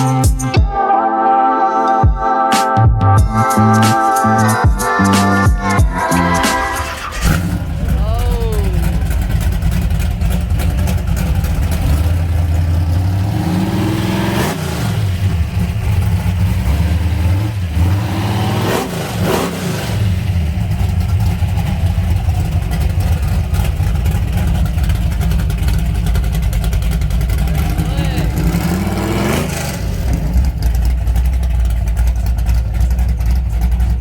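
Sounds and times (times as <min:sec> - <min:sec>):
car engine revving: 0:05.9 - 0:34.0.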